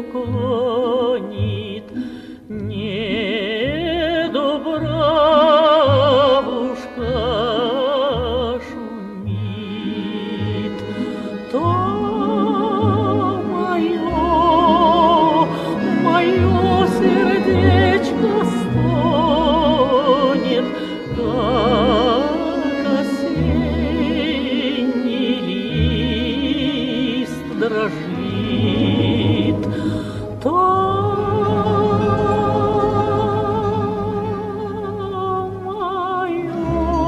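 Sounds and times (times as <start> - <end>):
instrumental accompaniment: 0.0 - 37.0
person singing operatically: 0.0 - 37.0.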